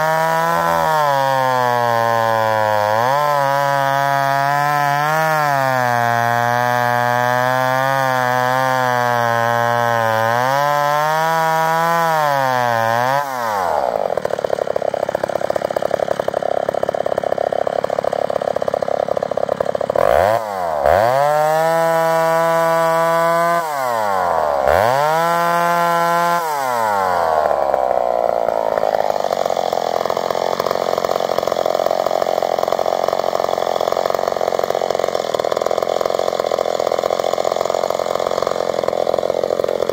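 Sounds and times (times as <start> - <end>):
chainsaw cutting wood: 0.0 - 39.9
chainsaw idling: 0.0 - 39.9
chainsaw revving: 0.0 - 39.9.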